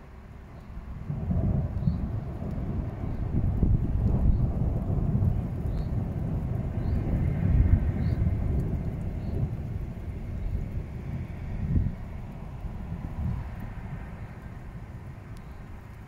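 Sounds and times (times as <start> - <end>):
thunder rumbling: 0.8 - 16.0.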